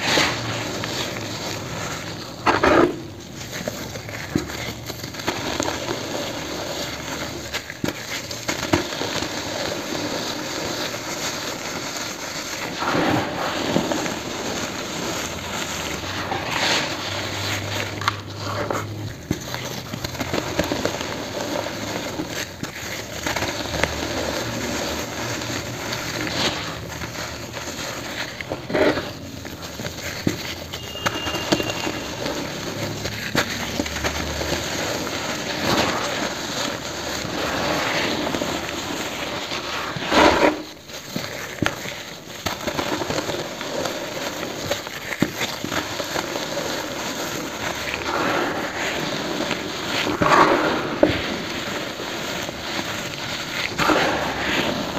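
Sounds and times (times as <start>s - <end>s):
cement crunching in hands: 0.0s - 54.9s.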